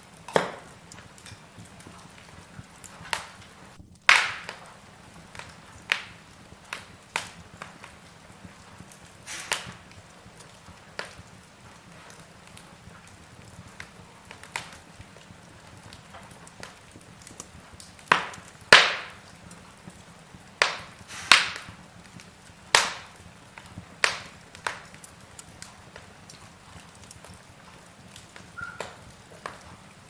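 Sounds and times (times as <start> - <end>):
faint fire hiss: 0.0 - 30.0
logs crackling and popping: 0.0 - 30.0.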